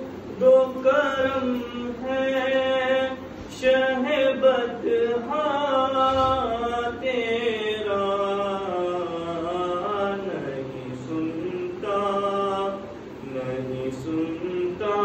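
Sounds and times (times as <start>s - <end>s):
young man chanting: 0.0s - 15.0s.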